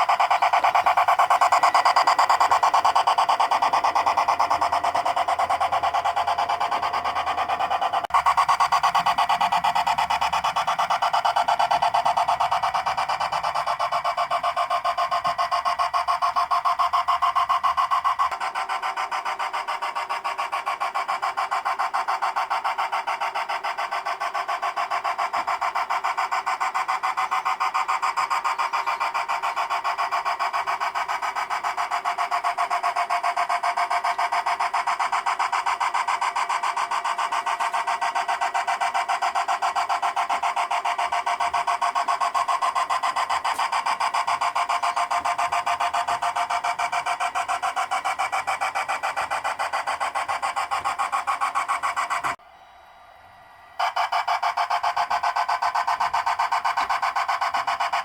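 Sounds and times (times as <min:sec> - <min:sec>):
model train buzzing rattle: 0:00.0 - 0:52.4, 0:53.8 - 0:58.0.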